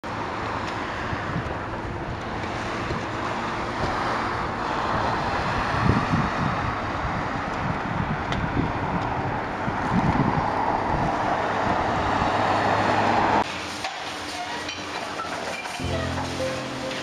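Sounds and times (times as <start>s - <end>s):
rushing outdoor ambience: 0.1s - 17.0s.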